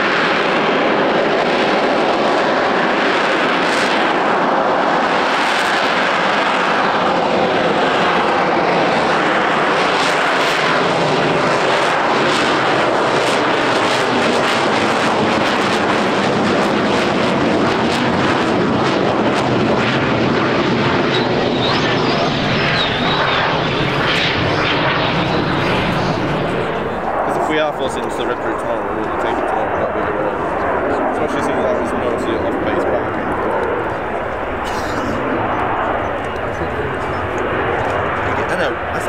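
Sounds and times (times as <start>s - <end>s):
jet engine crackle: 0.0s - 39.0s
jet engine roaring: 0.0s - 39.0s.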